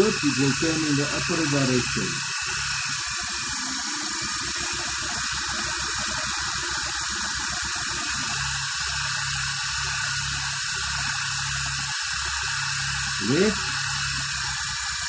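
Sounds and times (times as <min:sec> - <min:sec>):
rc helicopter rotors whirring: 0:00.0 - 0:15.0.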